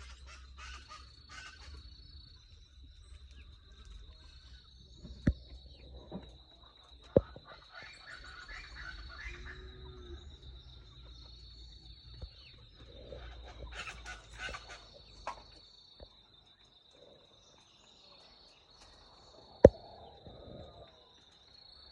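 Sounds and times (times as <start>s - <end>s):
birds chirping: 0.0s - 20.8s
insect trill: 0.0s - 21.9s.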